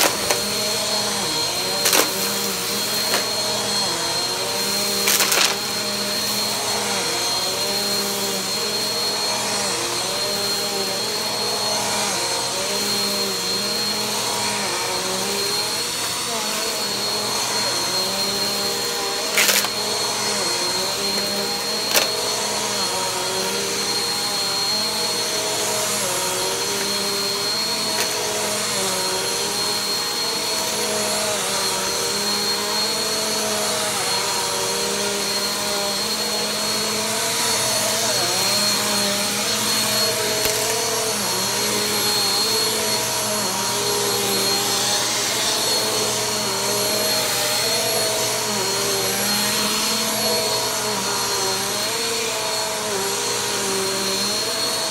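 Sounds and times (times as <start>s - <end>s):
vacuum cleaner on carpet: 0.0s - 54.9s.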